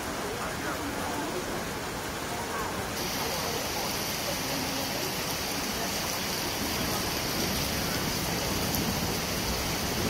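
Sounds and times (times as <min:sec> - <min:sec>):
rain splashing on standing water: 0:00.0 - 0:10.0.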